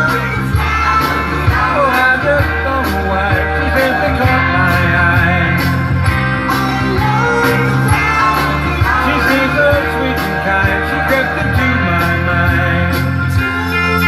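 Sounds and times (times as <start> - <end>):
drums bass and guitar backing: 0.0 - 14.0
man singing pop-rock song: 0.0 - 14.0.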